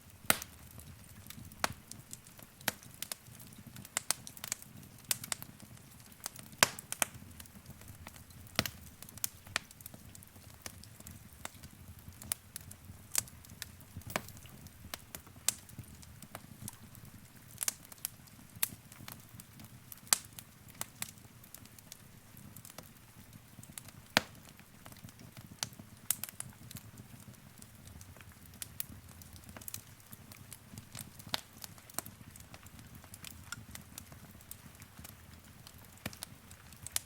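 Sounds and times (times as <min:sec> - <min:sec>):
fire popping and snapping: 0:00.0 - 0:37.0
low rumble of burning: 0:00.0 - 0:37.0.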